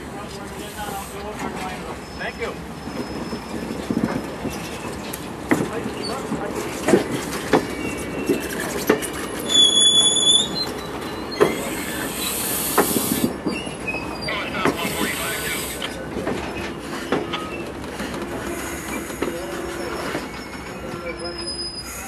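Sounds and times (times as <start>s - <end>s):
train rolling rumble: 0.0s - 22.0s
steel wheels squealing: 0.6s - 22.0s
wheels clunking over rail joints: 1.2s - 15.0s, 15.8s - 21.8s.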